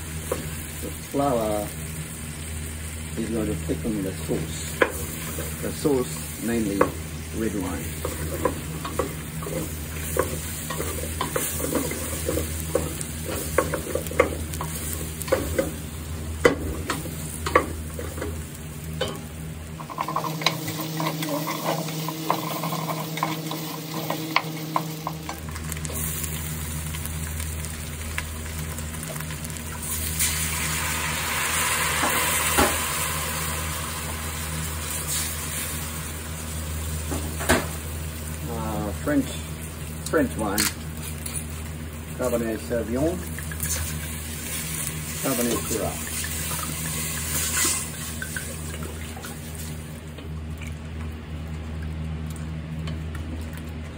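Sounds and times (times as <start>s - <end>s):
frying sizzle: 0.0s - 53.9s.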